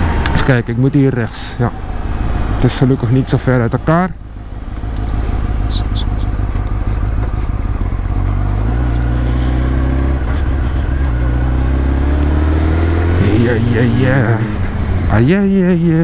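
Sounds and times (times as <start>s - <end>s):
motorcycle engine running: 1.7s - 16.0s.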